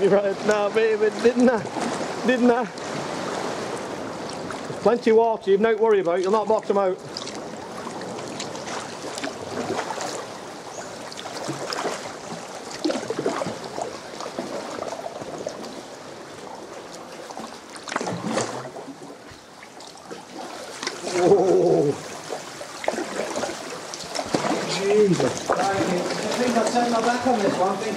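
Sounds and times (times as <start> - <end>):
paddle splashes and drips: 0.0 - 27.9
water lapping around kayak: 0.0 - 27.9.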